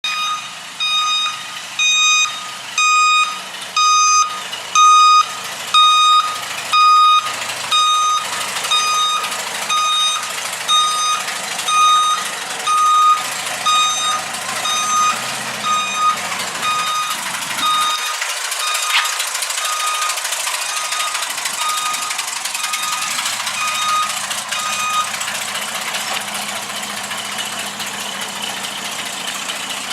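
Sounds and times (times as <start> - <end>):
reversing alarm beeping: 0.0 - 25.3
engine and street noise: 0.0 - 29.9.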